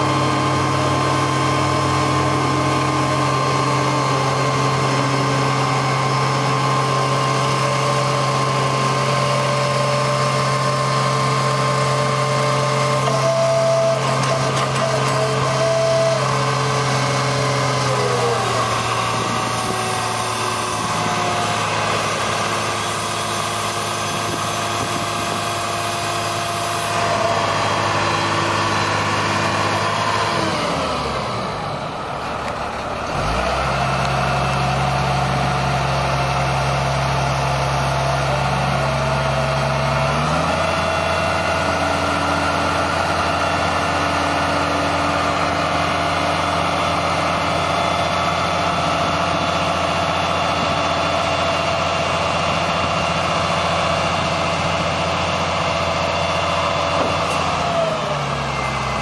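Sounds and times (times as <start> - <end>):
hydraulic whine: 0.0 - 59.0
truck engine running: 0.0 - 59.0.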